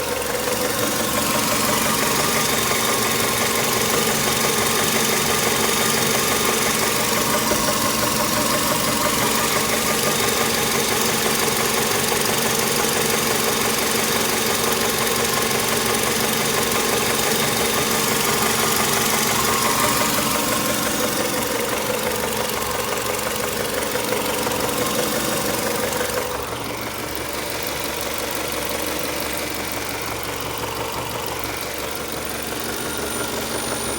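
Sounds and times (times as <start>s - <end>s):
engine running with knocking: 0.0s - 33.9s.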